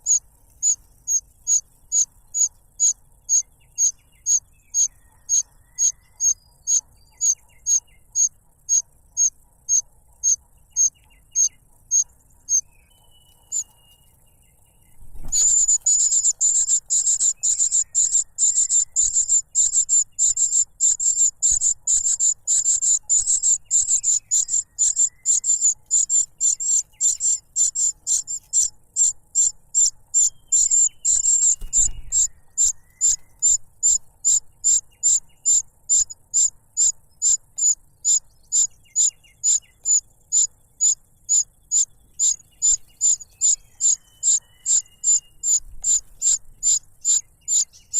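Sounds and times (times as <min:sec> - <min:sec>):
chick begging calls: 0:00.0 - 0:13.8, 0:15.2 - 0:47.9.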